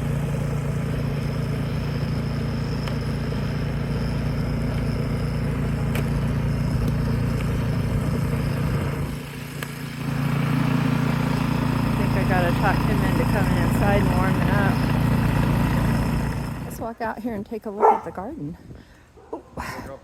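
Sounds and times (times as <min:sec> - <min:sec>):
snowblower engine running: 0:00.0 - 0:16.9.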